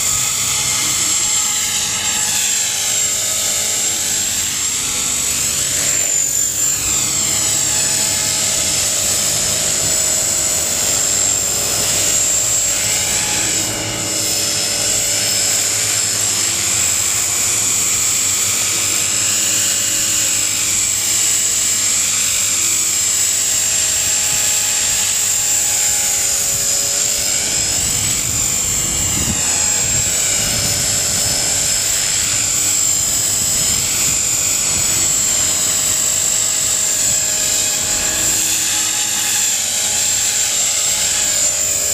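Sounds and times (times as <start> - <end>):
rc helicopter whine and rotors: 0.0 - 41.9.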